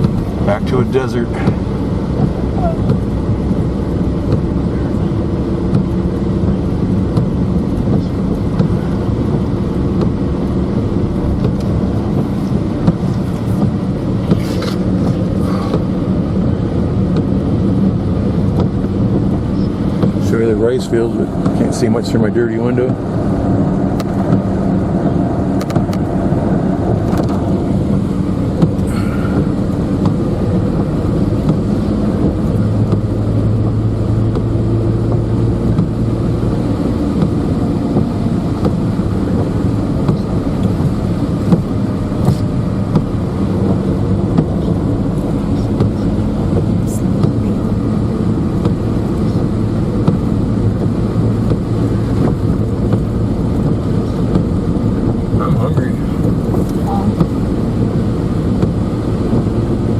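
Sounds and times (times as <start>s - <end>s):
car engine hum: 0.0s - 59.9s
road noise: 0.0s - 59.9s.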